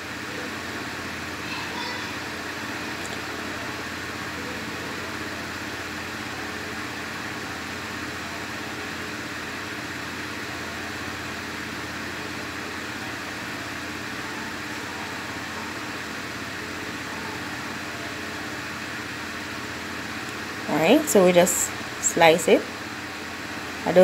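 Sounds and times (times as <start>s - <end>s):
mechanical hum with hiss: 0.0s - 24.0s.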